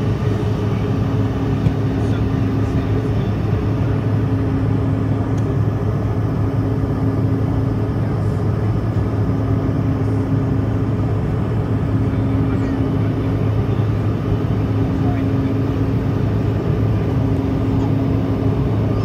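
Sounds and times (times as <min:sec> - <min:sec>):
airliner engines droning: 0:00.0 - 0:19.0
constant low hum: 0:00.0 - 0:19.0.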